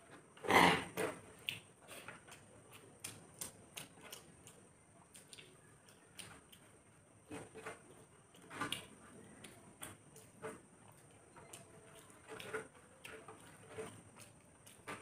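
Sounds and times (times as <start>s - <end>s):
chewing: 1.0s - 15.0s
fingers mixing food on metal tray: 1.3s - 15.0s.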